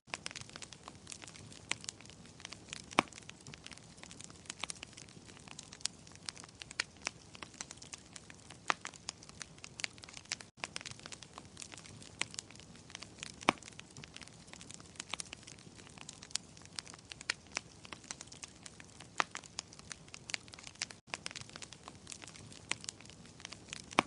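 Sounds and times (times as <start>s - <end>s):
wood fire crackling: 0.1s - 24.0s.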